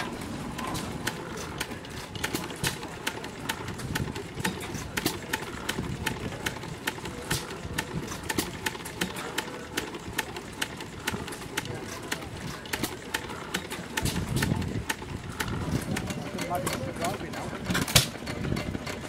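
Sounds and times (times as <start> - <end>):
sharp ticking clatter: 0.0 - 19.0
stationary engine running: 0.0 - 19.0.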